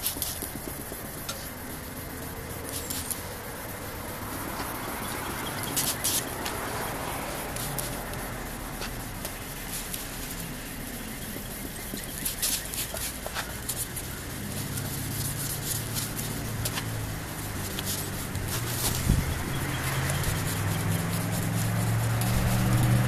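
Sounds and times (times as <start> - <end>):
spray bottle squirting: 0.0 - 23.0
wet sandpaper rasping on plastic: 0.0 - 23.0.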